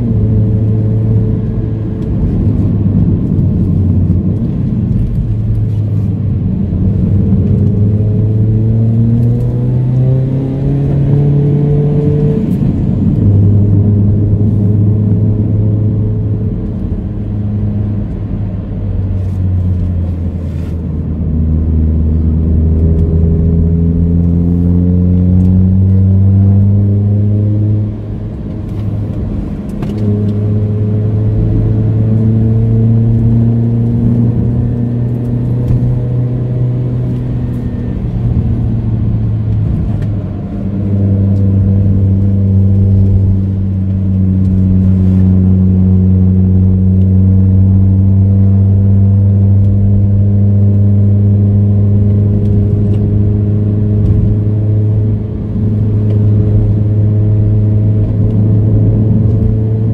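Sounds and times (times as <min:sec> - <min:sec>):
car engine pulling uphill: 0:00.0 - 0:59.9.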